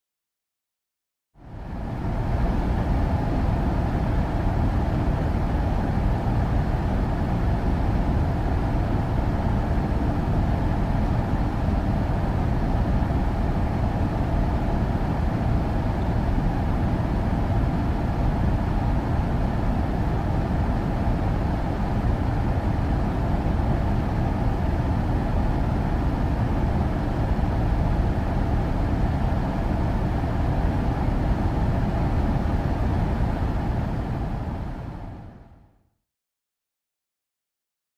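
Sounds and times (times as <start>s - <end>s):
air conditioner hum and airflow: 1.4s - 35.9s.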